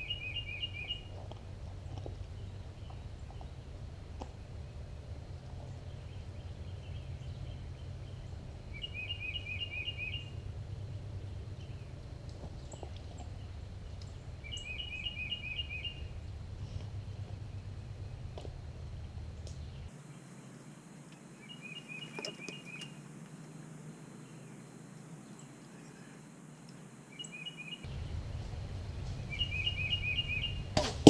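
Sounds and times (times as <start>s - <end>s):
low background rumble: 0.0s - 21.6s, 27.7s - 31.0s
songbird singing: 0.0s - 31.0s.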